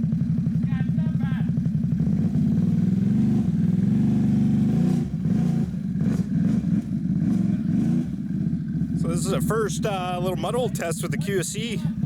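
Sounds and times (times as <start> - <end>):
atv engine revving: 0.0 - 12.0
engine knocks and clatter: 0.0 - 12.0.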